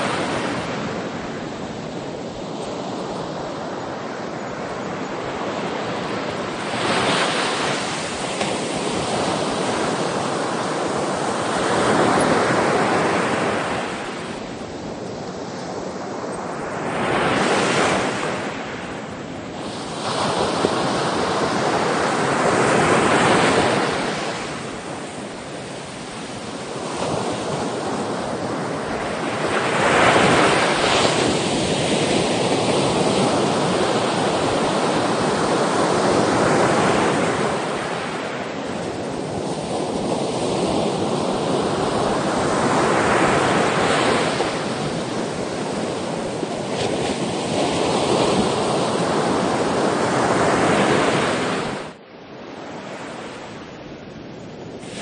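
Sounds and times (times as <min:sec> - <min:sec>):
ocean waves breaking: 0:00.0 - 0:53.8.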